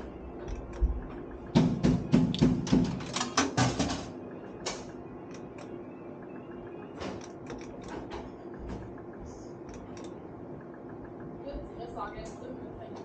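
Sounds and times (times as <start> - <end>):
slot machine mechanical clicks: 0.0 - 13.0.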